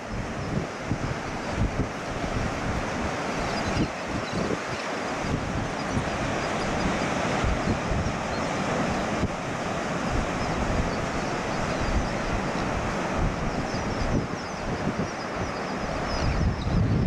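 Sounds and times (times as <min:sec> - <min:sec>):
ocean surf breaking: 0:00.0 - 0:16.6
wind buffeting microphone: 0:00.0 - 0:17.0.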